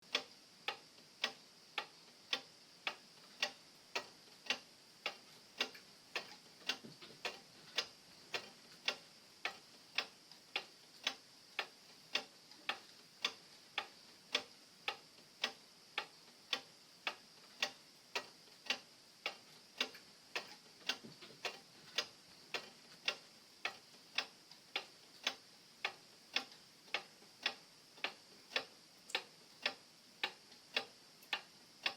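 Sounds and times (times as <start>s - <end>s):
pendulum clock ticking: 0.0s - 31.9s.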